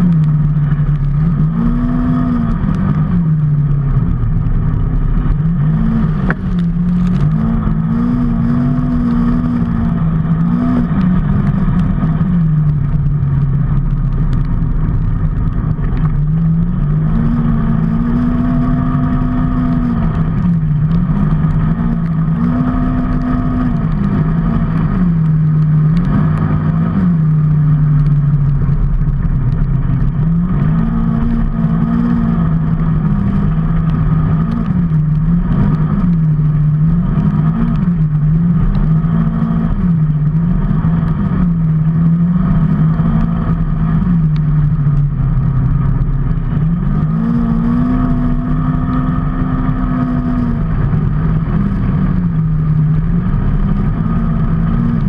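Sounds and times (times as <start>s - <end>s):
motorcycle engine revving: 0.0s - 55.0s
road and wind noise: 0.0s - 55.0s.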